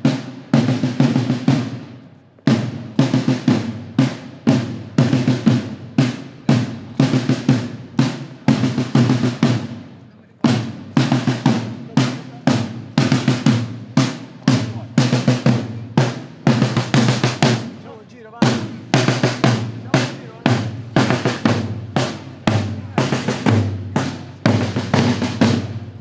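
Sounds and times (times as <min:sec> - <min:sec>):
marching snare drums: 0:00.0 - 0:26.0.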